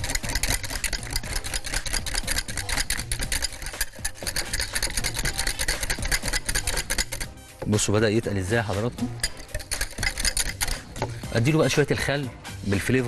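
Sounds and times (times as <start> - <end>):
wire whisk scraping glass bowl: 0.0 - 12.1.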